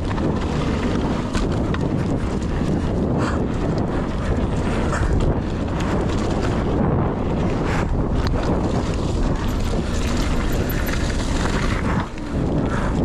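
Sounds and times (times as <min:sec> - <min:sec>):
mountain bike rattling: 0:00.0 - 0:13.0
sharp clacks from bike: 0:00.0 - 0:13.0
wind rushing over microphone: 0:00.0 - 0:13.0.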